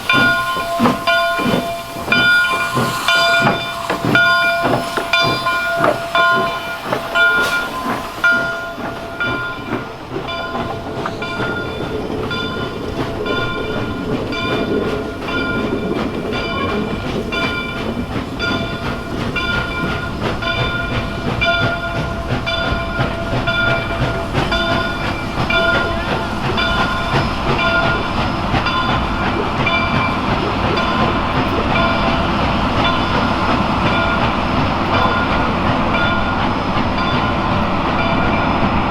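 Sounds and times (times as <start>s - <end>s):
locomotive bell ringing: 0.0s - 38.9s
train rumbling and clattering: 0.0s - 38.9s.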